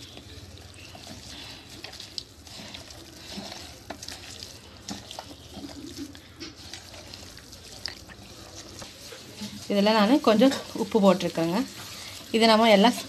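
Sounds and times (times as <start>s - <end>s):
hand squelching raw meat: 0.0s - 13.0s.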